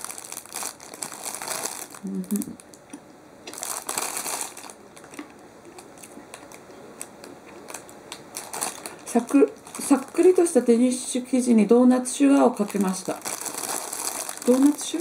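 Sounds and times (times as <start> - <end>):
plastic wrapper crinkling: 0.0 - 2.8, 3.5 - 11.1, 12.0 - 15.0.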